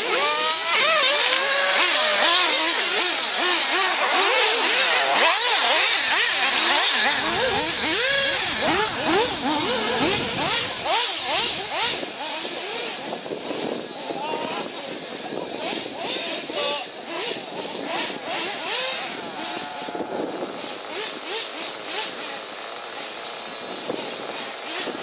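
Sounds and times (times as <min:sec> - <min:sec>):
rc buggy motors whining: 0:00.0 - 0:25.0.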